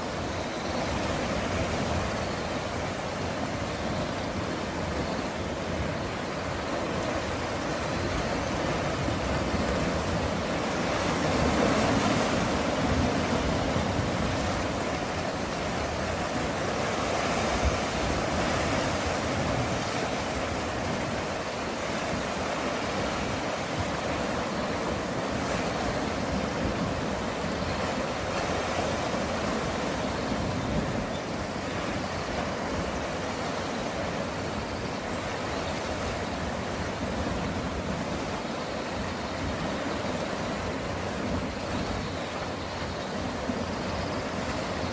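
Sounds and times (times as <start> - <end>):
sea waves washing ashore: 0.0 - 44.9.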